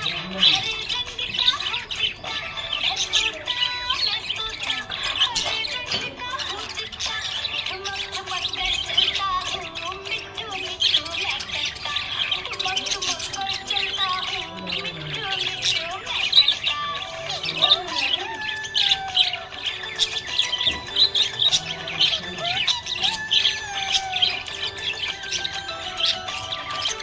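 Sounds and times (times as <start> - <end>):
budgerigars chirping and warbling: 0.0 - 27.0.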